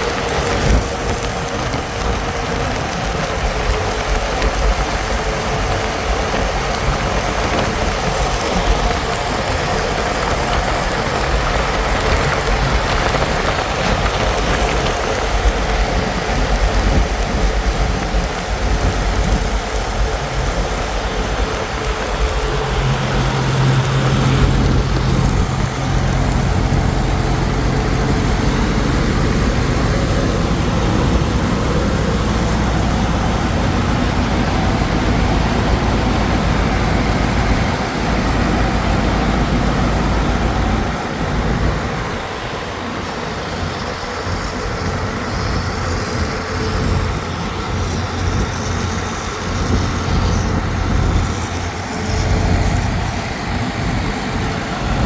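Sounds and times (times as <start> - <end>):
heavy engine running: 0.0 - 55.0.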